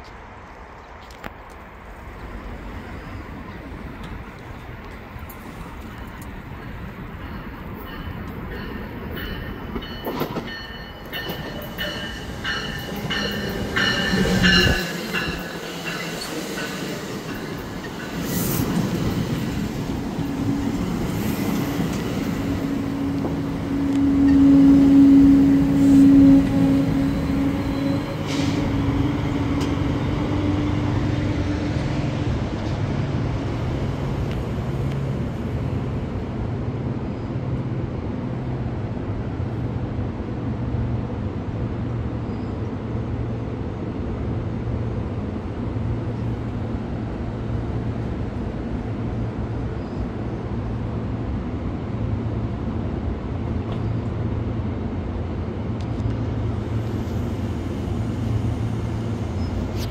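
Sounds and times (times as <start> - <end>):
rumble of train wheels on rail: 0.0 - 59.9.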